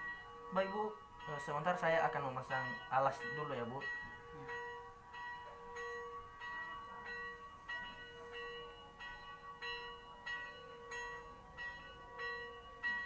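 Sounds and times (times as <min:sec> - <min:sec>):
bell-like chiming music: 0:00.0 - 0:13.0.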